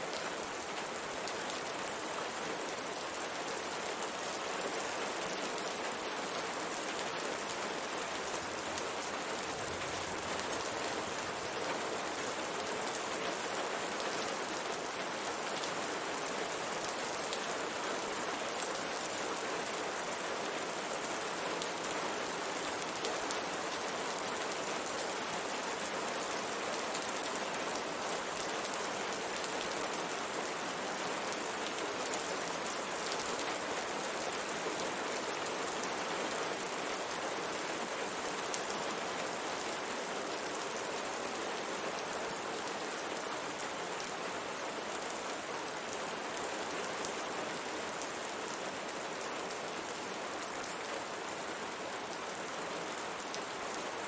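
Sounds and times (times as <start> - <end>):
rain pattering on a window: 0.1 - 45.9.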